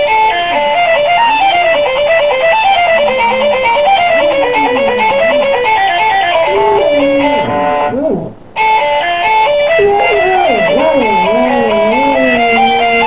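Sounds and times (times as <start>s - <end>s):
hound howling: 1.0s - 8.4s, 9.5s - 13.0s.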